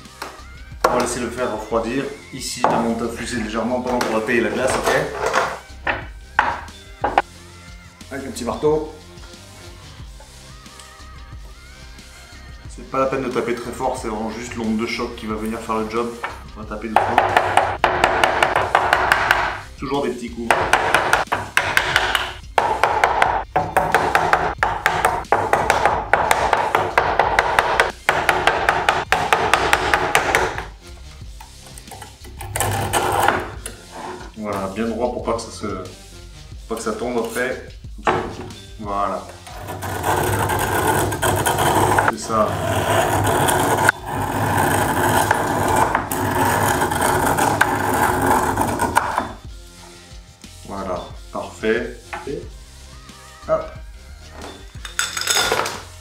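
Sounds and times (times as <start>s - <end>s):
background music: 0.0s - 56.0s.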